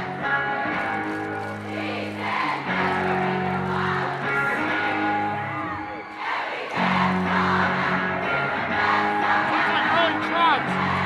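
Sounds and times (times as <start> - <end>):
guitar music: 0.0 - 6.0, 6.7 - 11.0.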